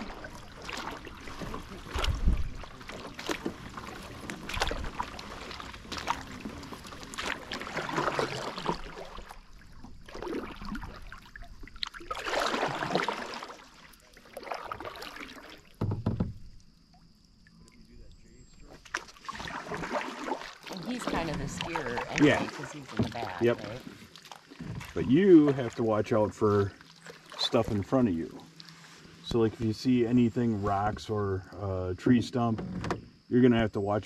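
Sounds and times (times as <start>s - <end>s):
paddle swishing through water: 0.0s - 16.6s, 18.6s - 31.5s.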